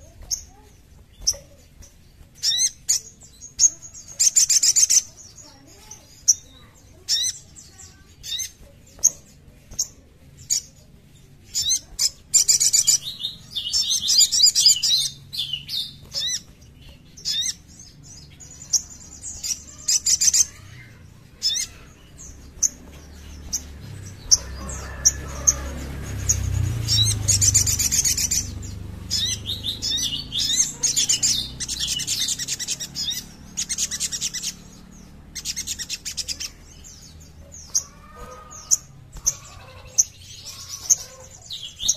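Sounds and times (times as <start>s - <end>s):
bird chirping and trilling: 0.0s - 41.9s.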